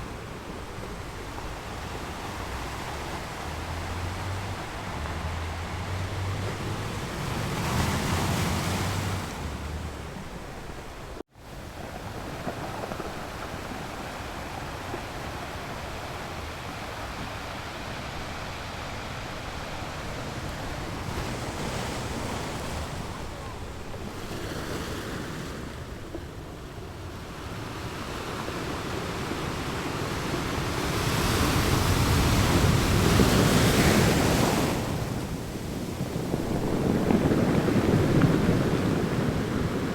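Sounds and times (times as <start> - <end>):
ocean waves rolling in: 0.0 - 39.9.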